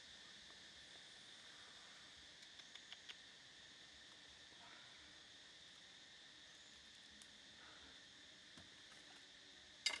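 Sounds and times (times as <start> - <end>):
forest insects droning: 0.0 - 10.0.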